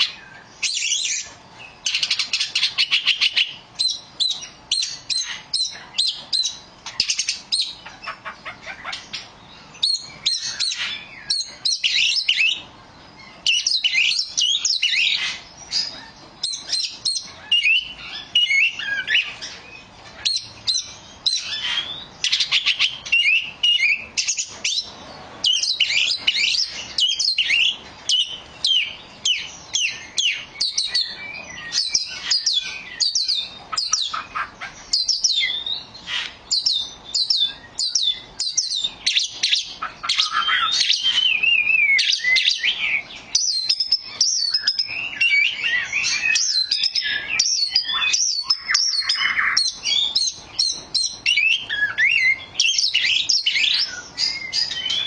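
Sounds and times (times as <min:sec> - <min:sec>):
bird singing chirps and whistles: 0:00.0 - 0:55.0.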